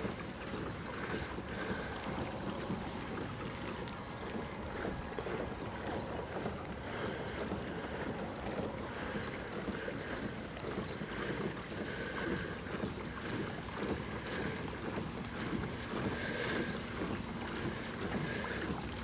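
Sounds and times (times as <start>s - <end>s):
boat engine drone: 0.0s - 19.0s
water noise: 0.0s - 19.0s.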